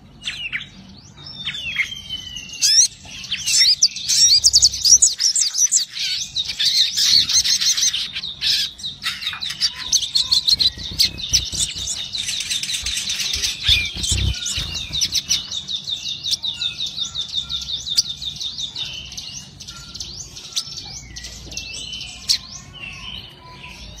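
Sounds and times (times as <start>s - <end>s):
bird chirping and trilling: 0.2s - 24.0s.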